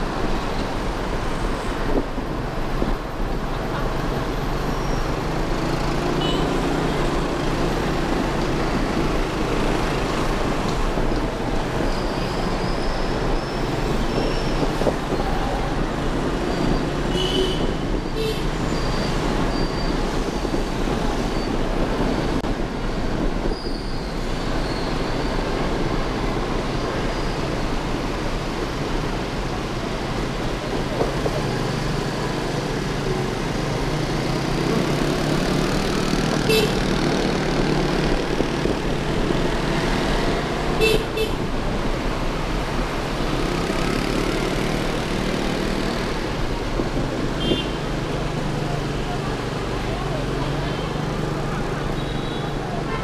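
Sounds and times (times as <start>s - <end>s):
wind noise: 0.0s - 5.2s, 7.0s - 31.8s, 35.6s - 48.5s
city traffic: 0.0s - 53.0s.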